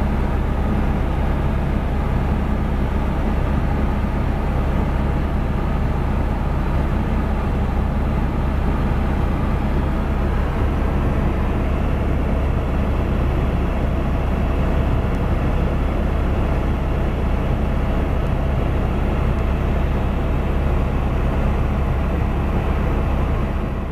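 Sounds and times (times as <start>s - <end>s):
helicopter rotor and engine rumble: 0.0s - 23.9s.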